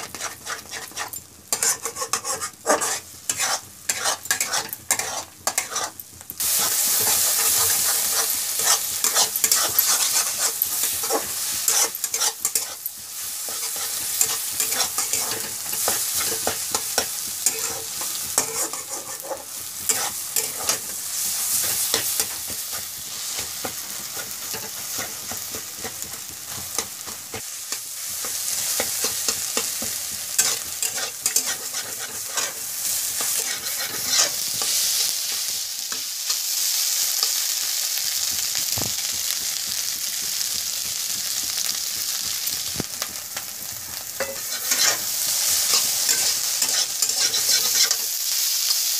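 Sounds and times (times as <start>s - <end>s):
spatula scraping a pan: 0.0s - 37.5s, 40.0s - 48.9s
eggs sizzling in a pan: 0.0s - 48.9s.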